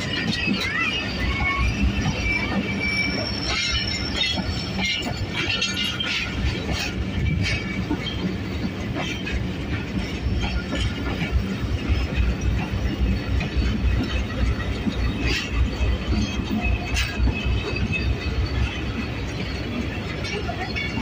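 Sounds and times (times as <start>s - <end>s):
wheel squeals: 0.0s - 9.4s, 10.0s - 21.0s
clacks over rail joints: 0.0s - 21.0s
wheels rumbling on rail: 0.0s - 21.0s.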